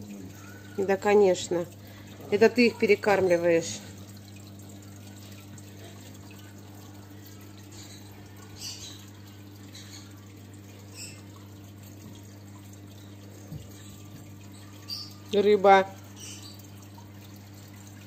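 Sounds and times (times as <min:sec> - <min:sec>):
aquarium pump humming: 0:00.0 - 0:18.0
soft water splashes: 0:00.0 - 0:18.0
water trickling: 0:00.0 - 0:18.0.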